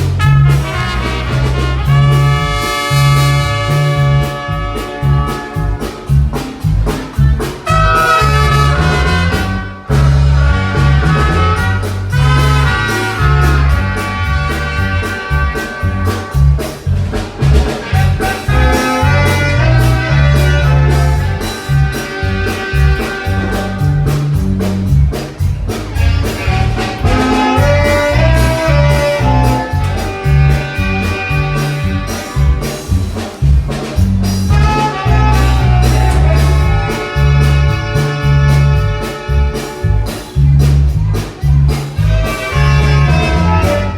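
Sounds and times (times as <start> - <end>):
brass-led dance music: 0.0 - 43.9.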